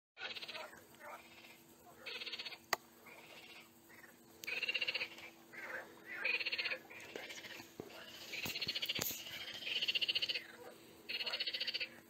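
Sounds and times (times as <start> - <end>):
frogs croaking: 0.2 - 12.0.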